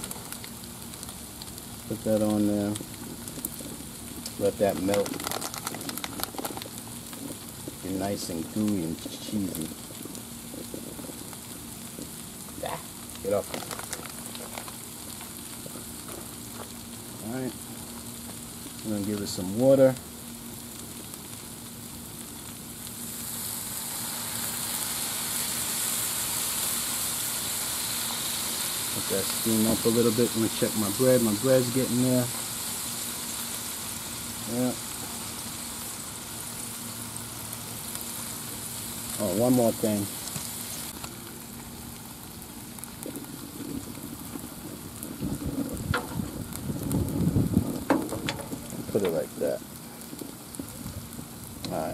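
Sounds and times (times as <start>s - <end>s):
water sizzling on a hot griddle: 0.0s - 51.9s.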